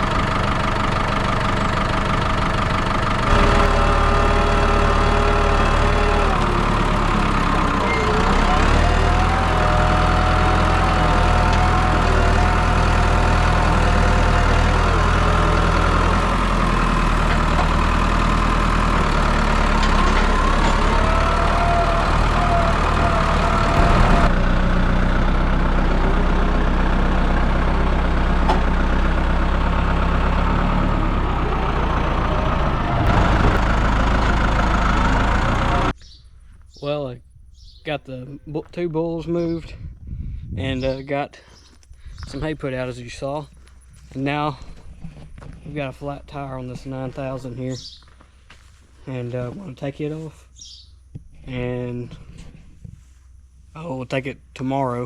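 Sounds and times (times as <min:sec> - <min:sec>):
farm vehicle engine idling: 0:00.0 - 0:55.0.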